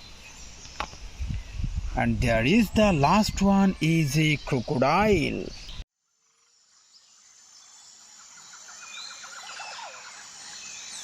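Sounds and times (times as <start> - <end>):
birds chirping: 0.0 - 5.8, 6.6 - 11.0.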